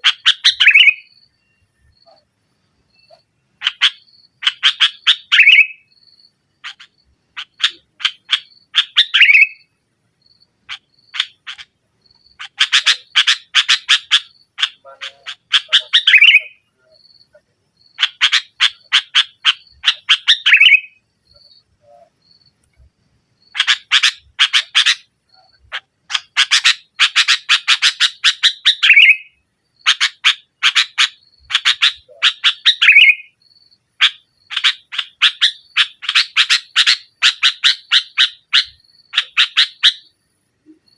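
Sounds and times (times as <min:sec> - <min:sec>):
bulbul chattering: 0:00.0 - 0:02.3, 0:03.0 - 0:22.8, 0:23.4 - 0:40.9.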